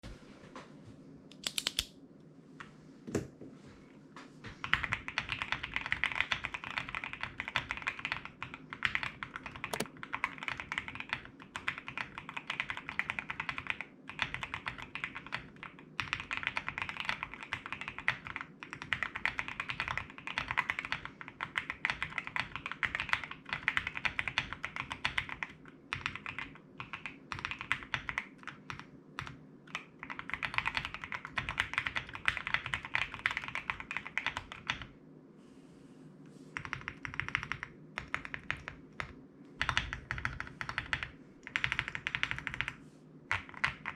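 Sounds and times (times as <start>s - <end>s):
mechanical keyboard typing: 4.6s - 34.9s, 36.6s - 43.9s.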